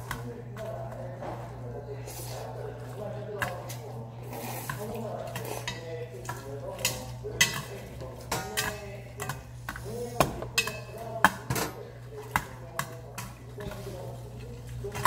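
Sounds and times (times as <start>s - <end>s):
utensils clinking against bowl: 0.0s - 15.0s.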